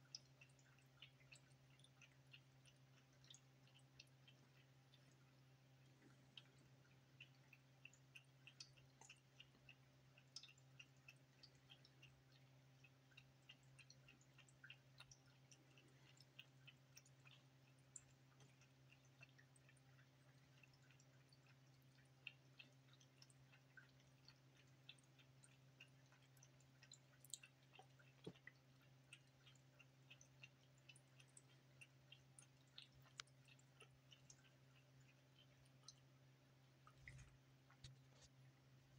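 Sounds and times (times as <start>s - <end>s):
cat lapping water: 0.0s - 38.9s
water fountain pump hum: 0.0s - 38.9s.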